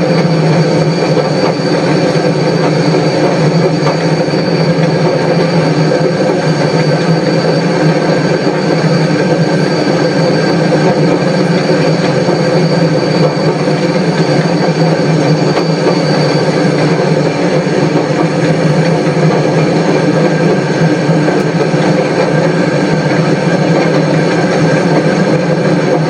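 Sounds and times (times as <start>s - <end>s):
thin high whine: 0.0s - 26.0s
train running along track: 0.0s - 26.0s.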